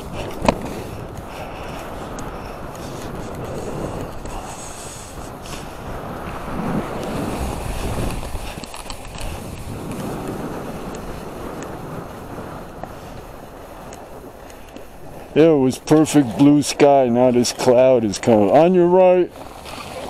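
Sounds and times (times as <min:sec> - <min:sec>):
skis scraping on packed snow: 0:00.0 - 0:20.0
wind rushing over microphone: 0:00.0 - 0:20.0.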